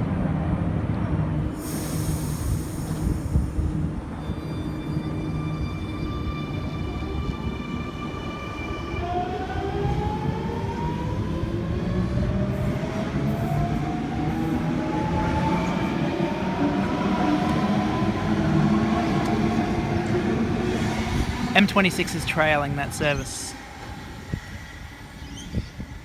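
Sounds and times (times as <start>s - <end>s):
low rumble of train: 0.0s - 26.0s.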